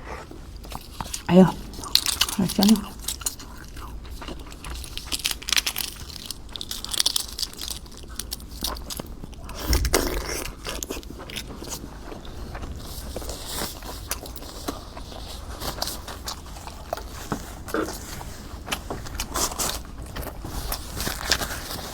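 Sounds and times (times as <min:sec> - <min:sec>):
person chewing crunchy food: 0:00.0 - 0:21.9.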